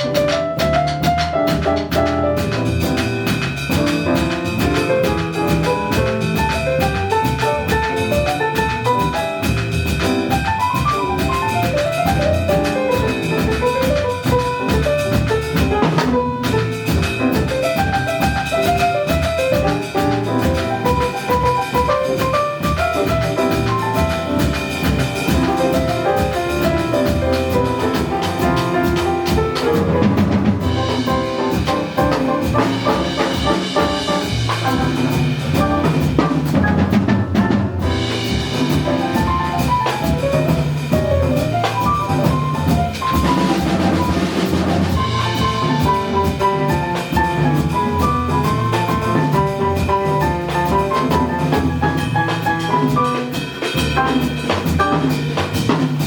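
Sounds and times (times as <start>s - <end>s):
drum kit and cymbals: 0.0s - 56.0s
live jazz ensemble: 0.0s - 56.0s.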